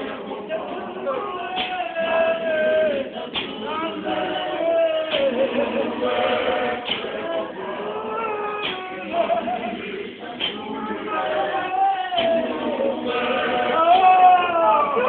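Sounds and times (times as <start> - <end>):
congregation singing in unison: 0.0 - 15.0.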